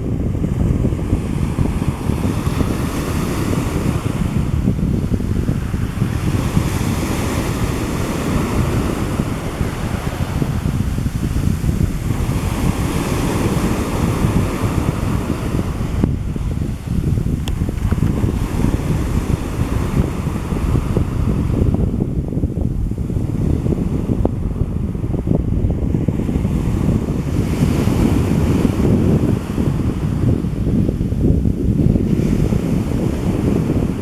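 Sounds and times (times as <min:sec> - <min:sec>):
sea waves washing: 0:00.0 - 0:31.3
wind buffeting microphone: 0:00.0 - 0:34.0.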